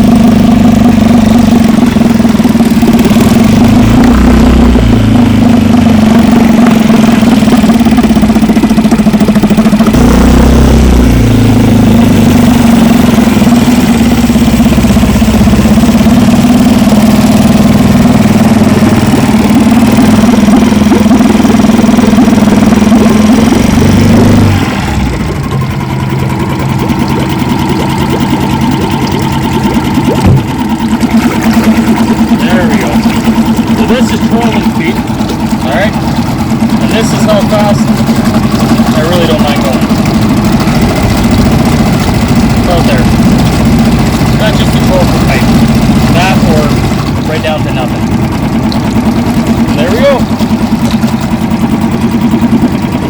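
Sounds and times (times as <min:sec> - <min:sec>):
outboard boat motor running: 0:00.0 - 0:53.0.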